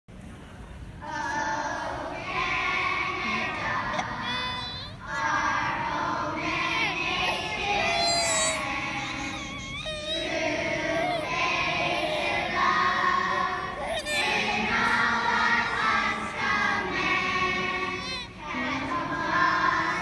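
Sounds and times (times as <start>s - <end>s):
crowd noise: 0.2s - 20.0s
children's choir singing: 1.0s - 20.0s.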